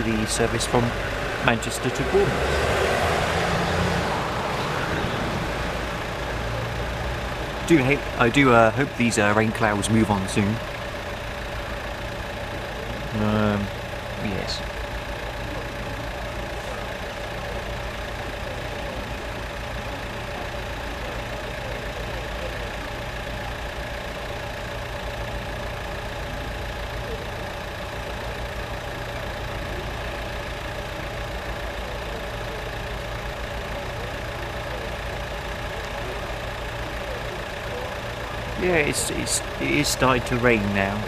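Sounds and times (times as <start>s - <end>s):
train diesel engines idling: 0.0s - 41.0s.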